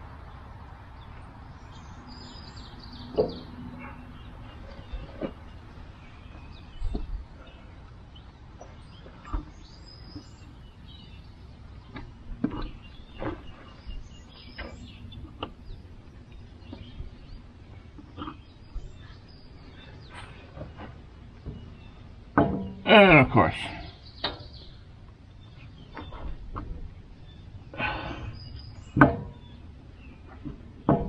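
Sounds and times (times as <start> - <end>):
low steady rumble: 0.0 - 31.0.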